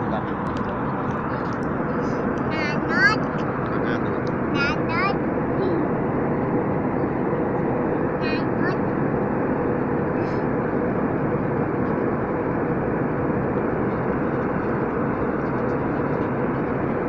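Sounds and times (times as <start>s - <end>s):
jet engines roaring: 0.0s - 17.0s
steady cabin hum: 0.0s - 17.0s.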